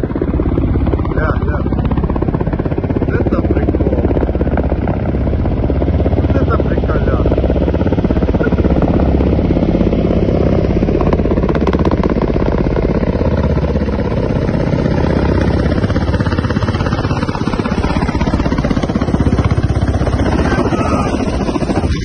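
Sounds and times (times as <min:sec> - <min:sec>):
helicopter rotor chop: 0:00.0 - 0:22.0.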